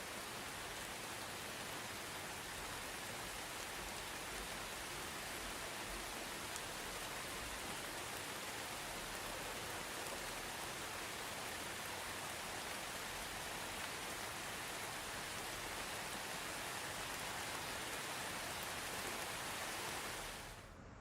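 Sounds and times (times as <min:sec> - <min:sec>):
soft rain falling: 0:00.0 - 0:20.8.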